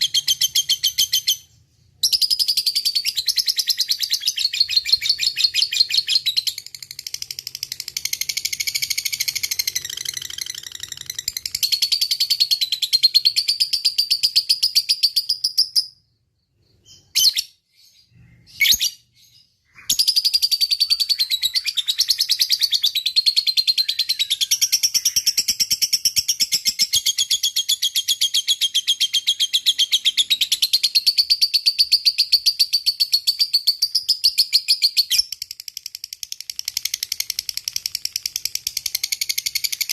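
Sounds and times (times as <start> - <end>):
lovebird shrill chirping: 0.0 - 35.3.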